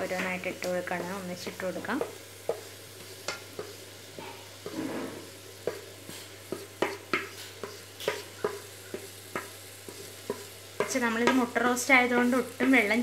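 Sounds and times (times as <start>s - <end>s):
wooden spatula tapping on metal: 0.0s - 4.8s, 5.6s - 13.0s
faint sizzle of frying: 0.0s - 13.0s.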